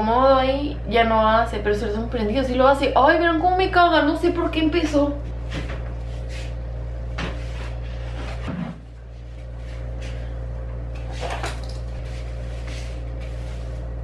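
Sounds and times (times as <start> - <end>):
light fixture electrical buzz: 0.0 - 14.0.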